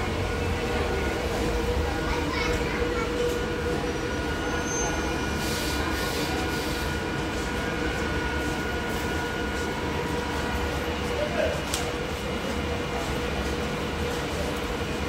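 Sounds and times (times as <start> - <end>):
electric train rumble: 0.0 - 15.0
train whine: 0.0 - 15.0.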